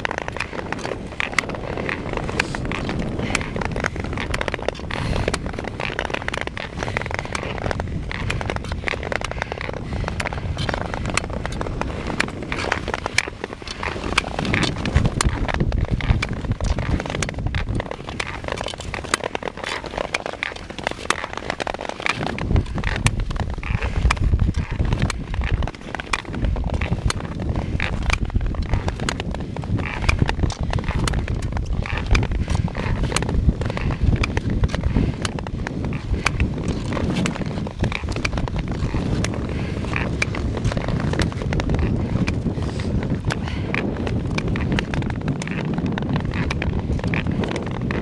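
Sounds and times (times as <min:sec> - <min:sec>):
skate blades scraping on ice: 0:00.0 - 0:48.0
wind rumble on microphone: 0:00.0 - 0:48.0.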